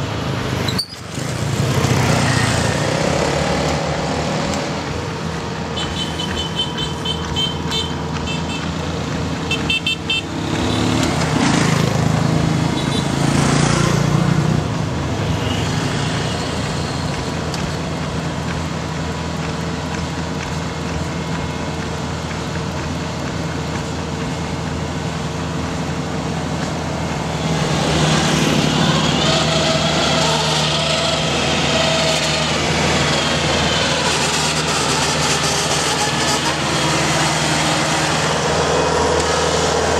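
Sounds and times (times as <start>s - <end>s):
large engine running: 0.0s - 15.2s, 15.8s - 39.9s.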